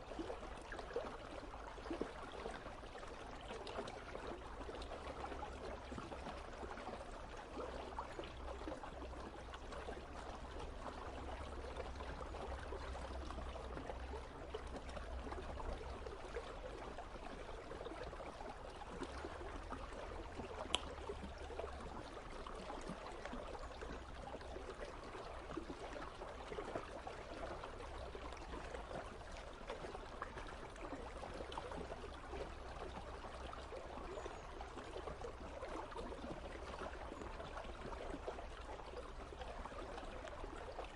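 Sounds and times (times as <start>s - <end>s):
river water rushing and babbling: 0.0s - 40.9s.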